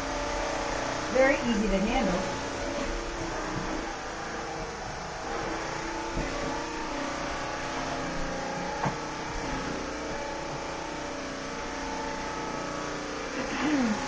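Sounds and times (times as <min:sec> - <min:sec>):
vacuum motor humming: 0:00.0 - 0:14.0.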